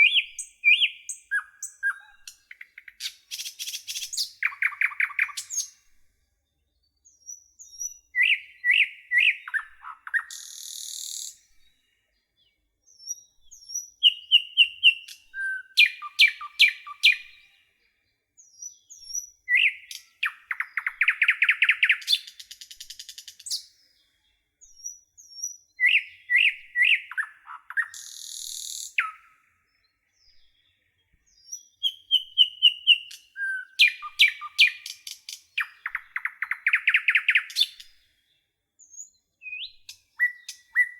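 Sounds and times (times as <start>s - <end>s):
nightingale singing: 0.0s - 40.9s.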